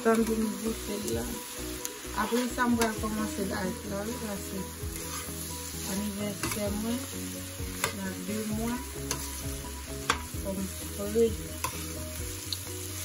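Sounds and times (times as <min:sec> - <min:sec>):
food sizzling: 0:00.0 - 0:13.0
spoon scraping frying pan: 0:00.0 - 0:13.0.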